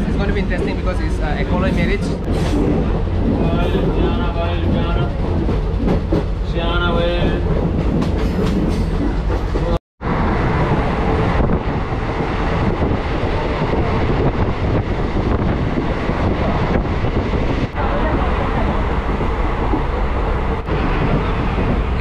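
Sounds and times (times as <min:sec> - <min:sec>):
train wheels rumbling and rattling: 0:00.0 - 0:22.0.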